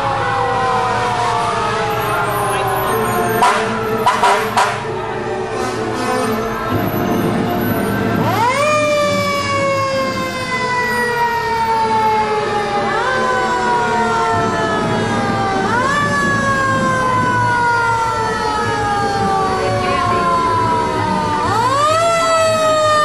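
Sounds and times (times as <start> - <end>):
fire truck siren wailing: 0.0 - 23.0.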